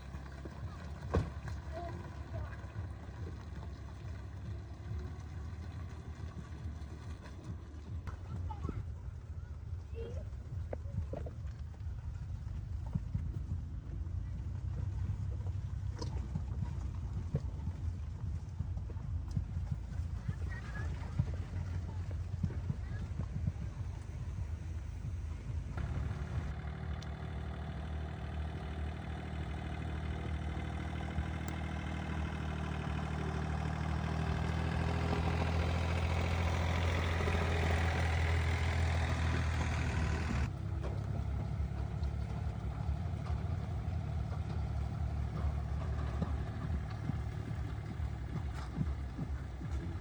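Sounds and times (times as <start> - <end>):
engine humming: 0.0 - 50.0
rough louder engine noise: 0.0 - 50.0.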